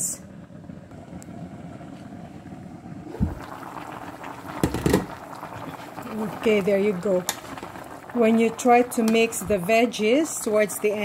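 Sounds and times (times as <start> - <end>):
soup simmering: 0.3 - 11.0.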